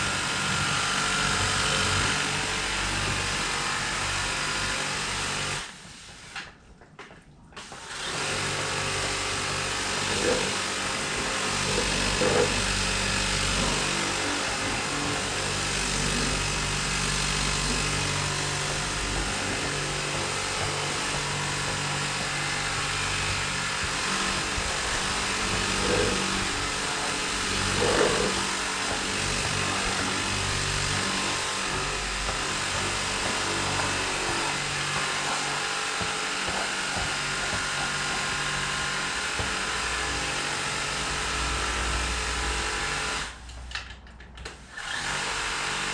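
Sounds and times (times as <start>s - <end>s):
electric pump humming: 0.0s - 6.1s, 7.6s - 43.5s, 44.6s - 45.9s.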